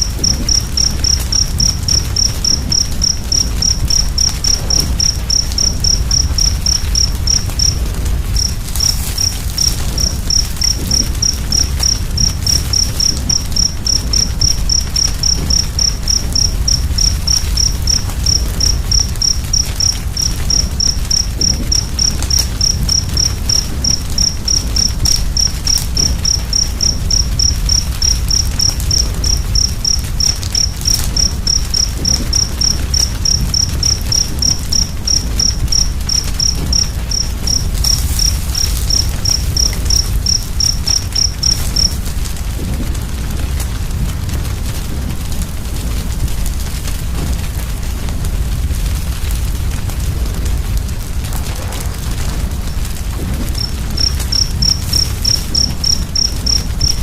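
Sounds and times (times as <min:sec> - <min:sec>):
cricket chirping: 0:00.0 - 0:57.0
wood fire crackling: 0:00.0 - 0:57.0.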